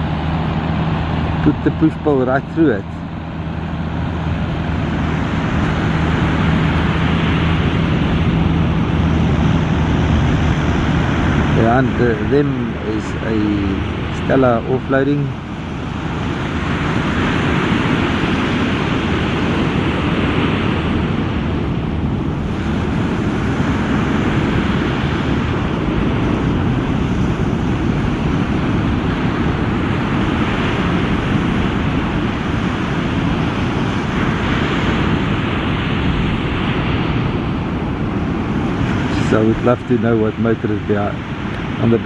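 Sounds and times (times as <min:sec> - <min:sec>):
surf breaking: 0:00.0 - 0:42.0
wind buffeting microphone: 0:00.0 - 0:42.0.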